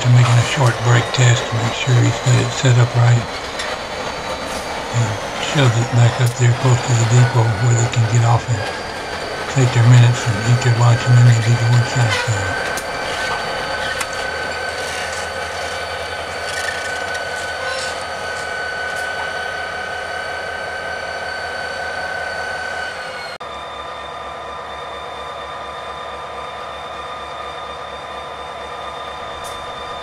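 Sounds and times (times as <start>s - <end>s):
diesel locomotive idling: 0.0s - 30.0s.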